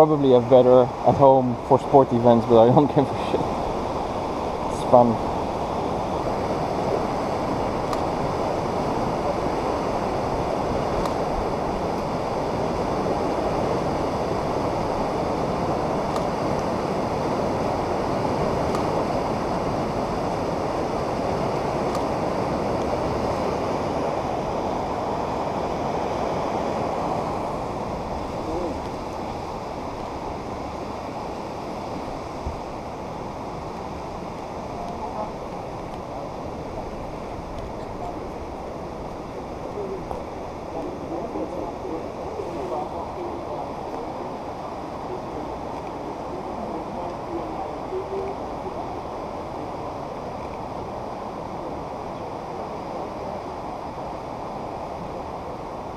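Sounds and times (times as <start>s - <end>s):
floodwater rushing in river: 0.0s - 55.9s.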